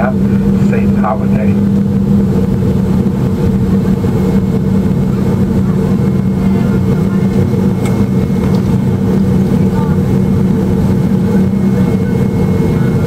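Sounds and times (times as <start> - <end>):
aircraft cabin drone: 0.0 - 13.0.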